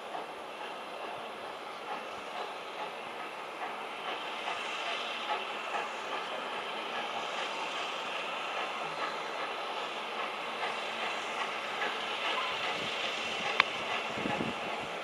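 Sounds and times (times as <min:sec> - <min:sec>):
steam hissing: 0:00.0 - 0:15.0
train wheels clicking over rails: 0:00.0 - 0:15.0.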